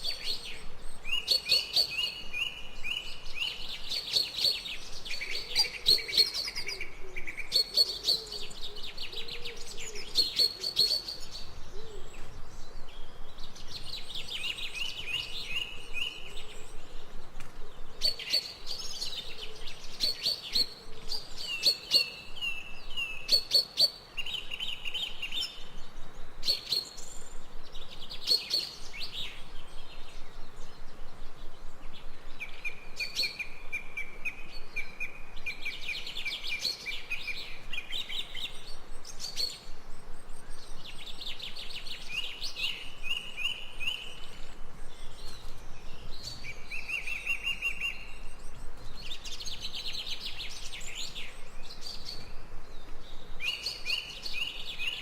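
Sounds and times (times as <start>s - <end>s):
birds chirping and trilling: 0.0s - 55.0s
faint steady hiss: 0.0s - 55.0s.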